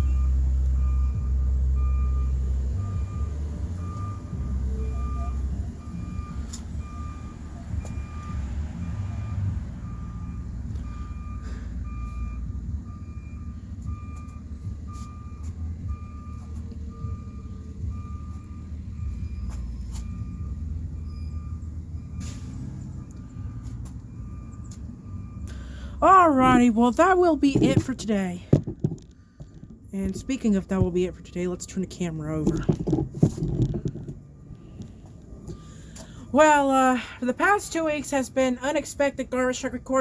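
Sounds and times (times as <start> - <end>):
reversing alarm beeping: 0.0 - 28.7, 29.4 - 32.7, 33.7 - 39.9
truck engine rumble: 0.0 - 40.0.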